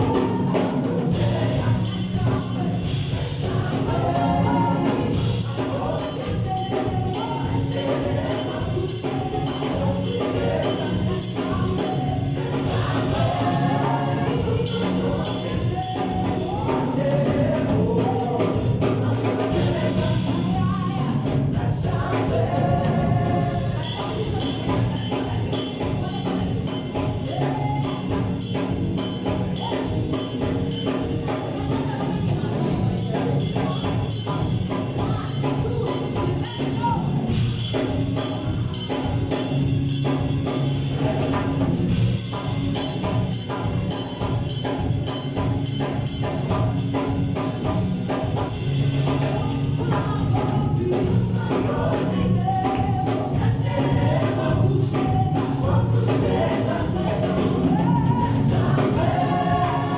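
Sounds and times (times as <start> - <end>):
group singing gospel song: 0.0 - 59.9
instrumental backing: 0.0 - 59.9
tambourine-like percussion: 0.0 - 59.9.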